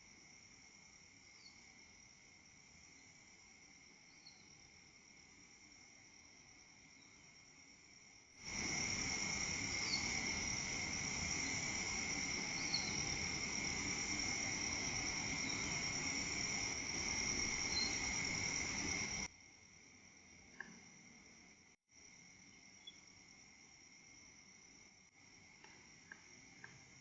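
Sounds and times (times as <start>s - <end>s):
background hiss: 0.0s - 27.0s
night insects chirring: 0.0s - 27.0s.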